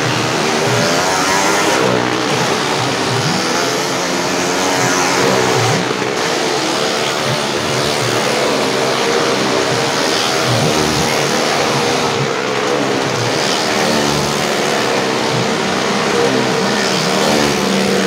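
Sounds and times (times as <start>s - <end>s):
motorcycle engine running hard: 0.0s - 18.0s.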